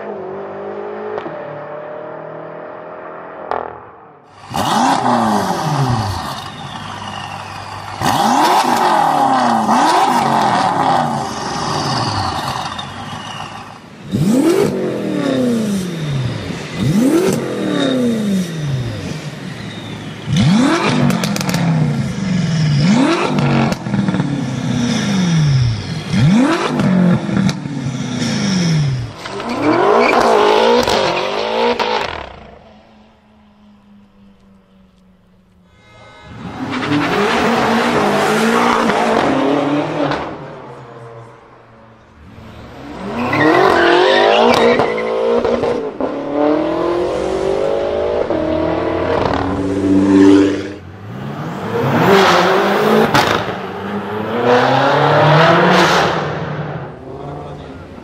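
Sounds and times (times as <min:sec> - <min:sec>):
car engine revving: 0:00.0 - 0:32.8, 0:36.2 - 0:40.8, 0:42.2 - 0:58.0.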